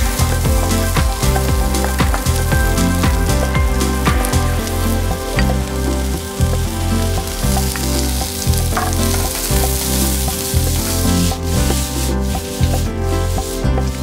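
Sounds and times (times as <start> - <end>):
vegetables sizzling in a wok: 0.0 - 14.0
wooden spoon stirring and scraping: 0.1 - 14.0.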